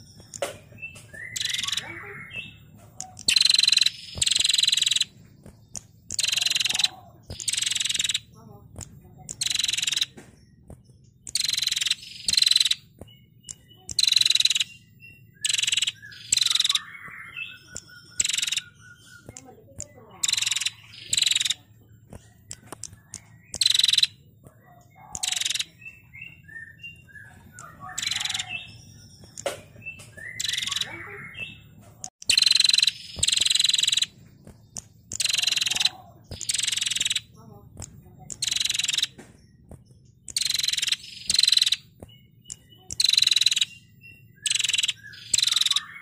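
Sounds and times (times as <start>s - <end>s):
bird buzzy rattling trills: 0.0s - 46.0s.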